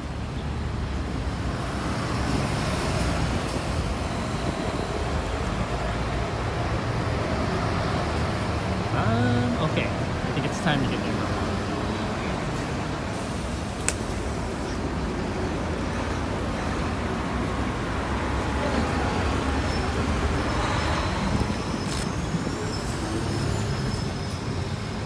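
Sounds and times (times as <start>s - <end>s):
passing traffic rumble: 0.0s - 25.0s.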